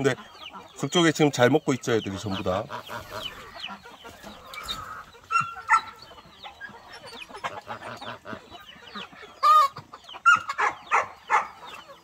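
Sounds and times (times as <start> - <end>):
chickens clucking and calling: 0.0 - 12.0.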